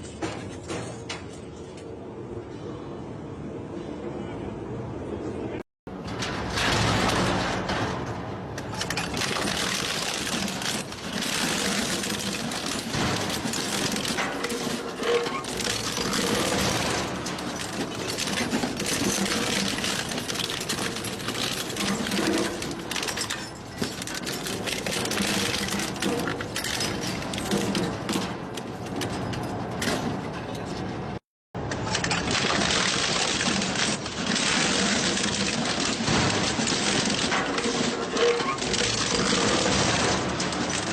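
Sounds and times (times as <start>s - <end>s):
metal clatter: 5.9s - 40.9s.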